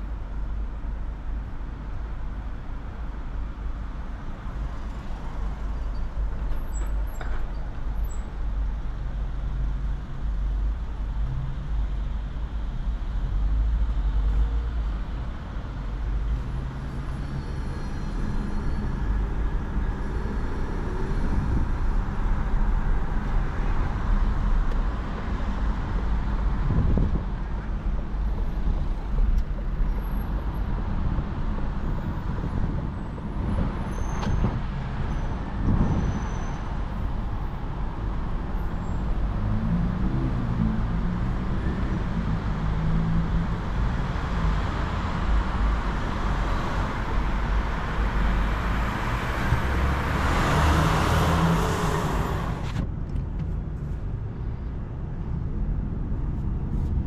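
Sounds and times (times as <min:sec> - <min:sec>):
road and tyre rumble: 0:00.0 - 0:57.0.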